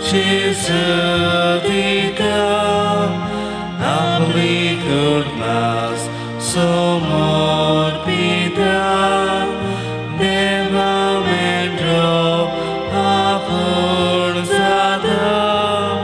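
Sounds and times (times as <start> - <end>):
hymn chords and bass: 0.0 - 16.0
person singing: 0.0 - 16.0.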